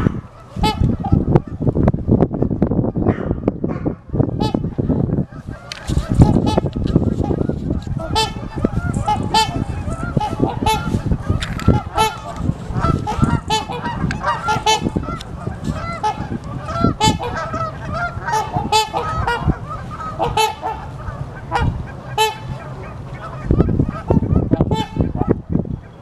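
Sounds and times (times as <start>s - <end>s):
geese honking: 0.0s - 1.7s, 4.1s - 26.0s.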